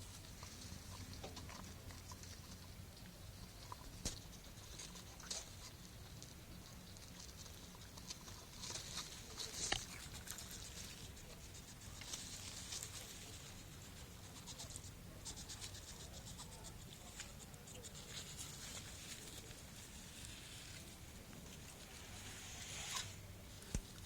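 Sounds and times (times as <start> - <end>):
hedgehog clicking and scratching: 0.1 - 24.0.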